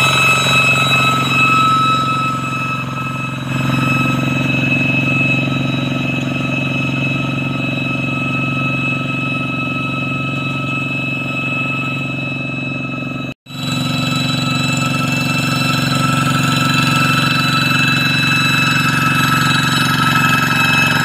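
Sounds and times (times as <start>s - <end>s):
diesel engine running under load: 0.0s - 21.0s
high-pitched whine: 0.0s - 21.0s.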